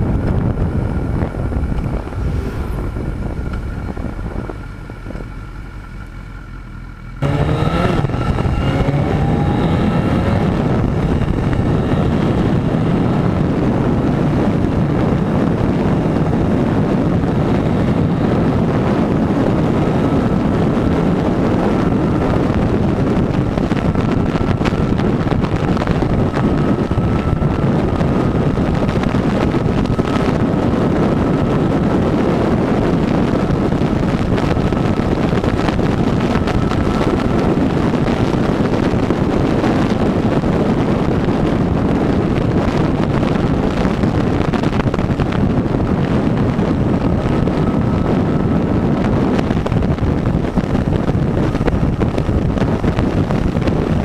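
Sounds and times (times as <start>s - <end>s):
motorcycle engine drone: 0.0s - 54.0s
wind rushing over microphone: 0.0s - 54.0s.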